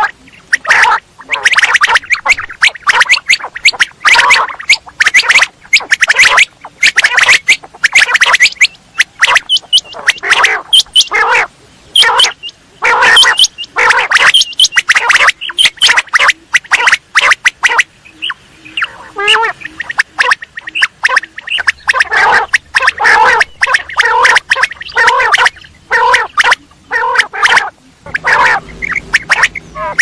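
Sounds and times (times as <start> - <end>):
quail rasping calls: 0.0 - 30.0.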